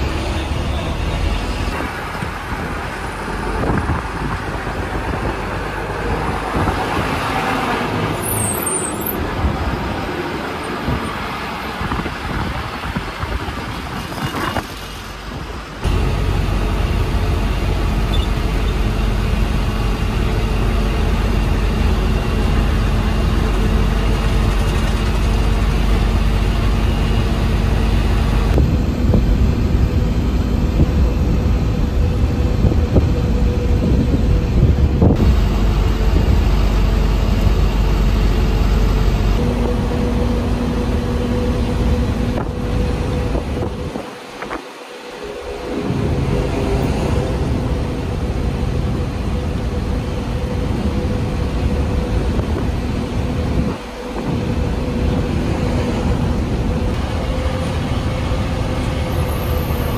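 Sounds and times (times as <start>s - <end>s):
bus diesel engine: 0.0s - 59.9s
road noise: 0.0s - 59.9s.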